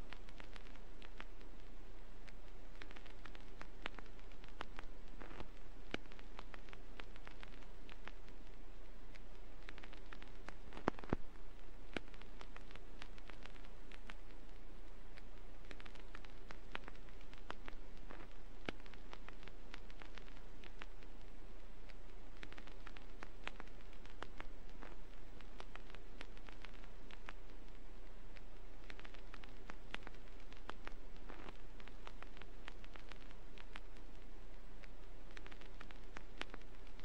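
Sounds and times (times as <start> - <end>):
vinyl record hiss and crackles: 0.0 - 37.0.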